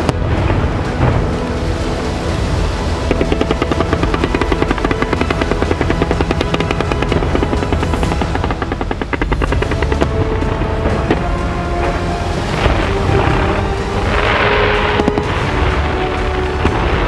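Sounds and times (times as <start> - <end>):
music: 0.0 - 17.0
firecrackers banging: 2.8 - 17.0.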